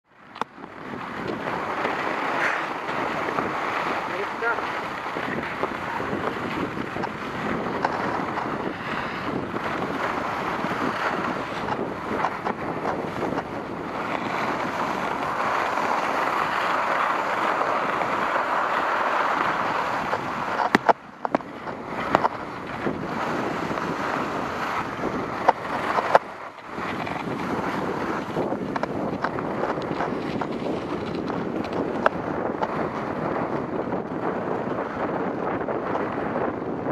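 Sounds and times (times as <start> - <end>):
wind on microphone: 0.0 - 36.9
skis sliding over snow: 0.1 - 36.9.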